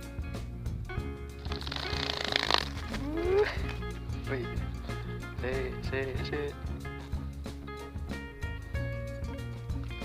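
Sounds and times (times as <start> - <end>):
background music with plucked strings: 0.0 - 10.0.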